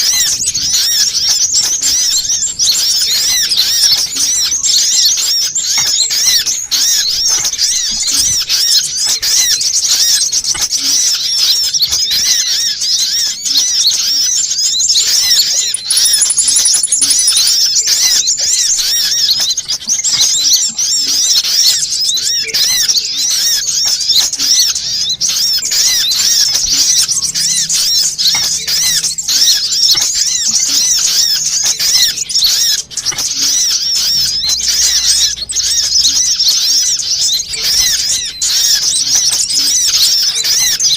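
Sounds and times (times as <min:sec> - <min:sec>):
high-pitched bird chirps: 0:00.0 - 0:40.9.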